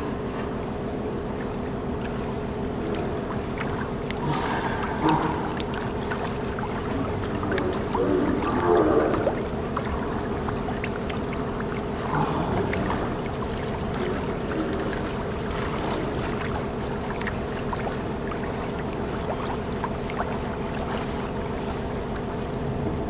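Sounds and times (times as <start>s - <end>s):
boat motor humming: 0.0s - 22.8s
water splashes: 0.2s - 22.7s.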